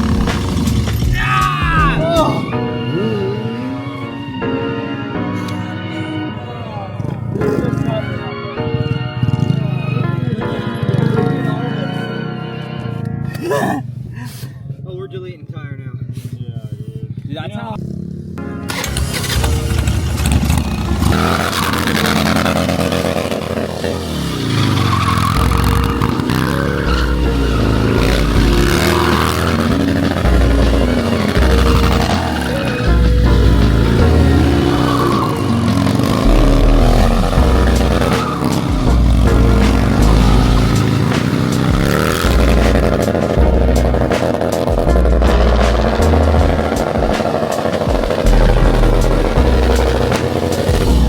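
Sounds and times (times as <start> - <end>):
motorcycle engine running hard: 0.0 - 4.0, 14.0 - 51.0.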